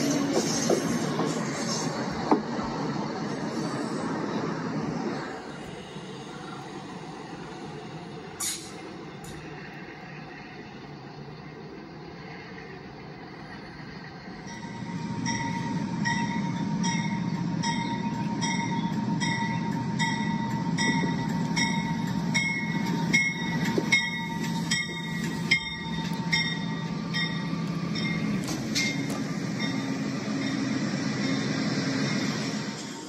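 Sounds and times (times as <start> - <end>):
train passing with low hum: 0.0 - 33.0.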